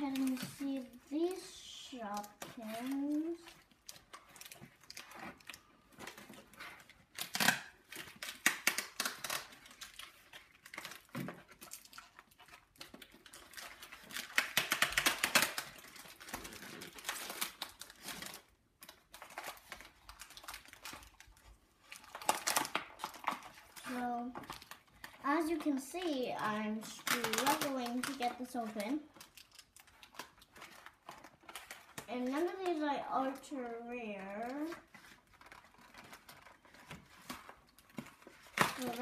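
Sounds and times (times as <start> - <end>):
packaging crinkling and rustling: 0.0 - 39.0.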